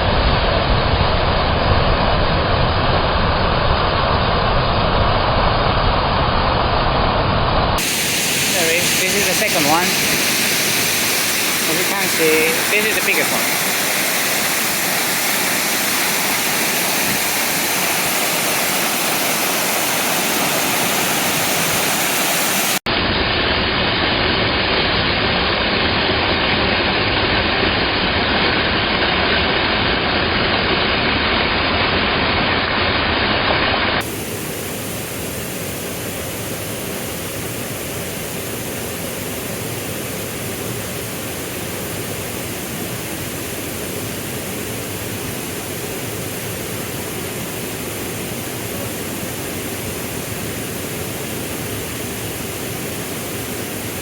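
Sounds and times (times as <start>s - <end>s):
waterfall roaring: 7.8s - 54.0s.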